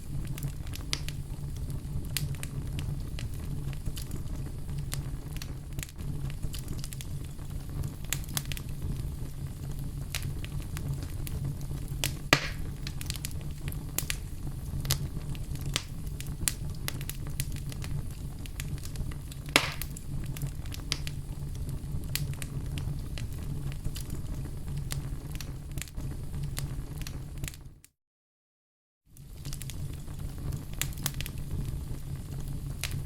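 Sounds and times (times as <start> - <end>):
wood fire crackling and popping: 0.0 - 27.8, 29.1 - 33.0
low rumble of fire flames: 0.0 - 27.9, 29.1 - 33.0.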